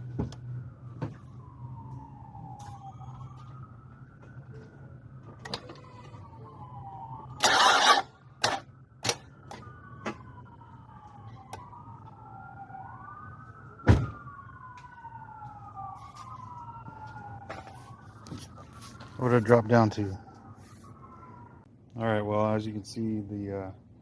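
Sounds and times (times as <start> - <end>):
wailing emergency siren: 0.0 - 24.0.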